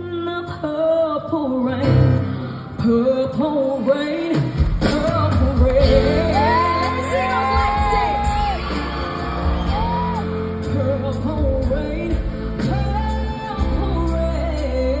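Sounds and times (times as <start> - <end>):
woman singing: 0.0 - 8.9, 9.6 - 15.0
live band playing slow ballad: 0.0 - 15.0.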